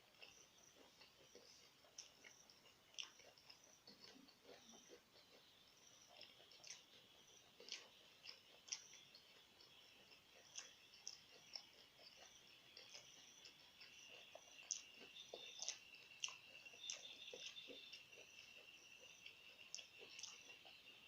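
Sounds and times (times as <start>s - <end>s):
mouth chewing: 0.0s - 21.0s.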